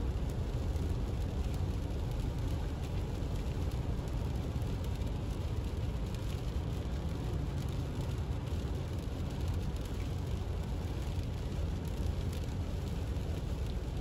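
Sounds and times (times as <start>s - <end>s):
car tyre rumble on wet road: 0.0s - 14.0s
rain on windshield: 0.0s - 14.0s.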